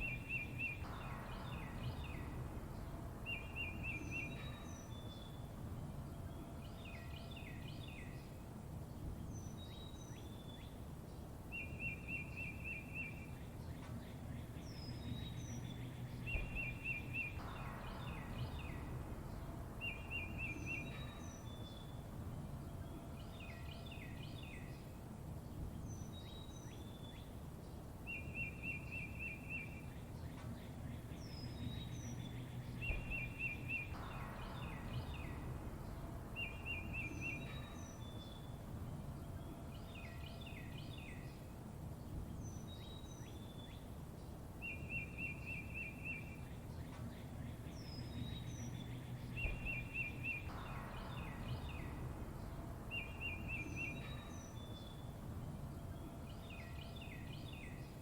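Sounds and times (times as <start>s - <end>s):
low background rumble: 0.0s - 58.0s
songbirds chirping: 0.0s - 58.0s.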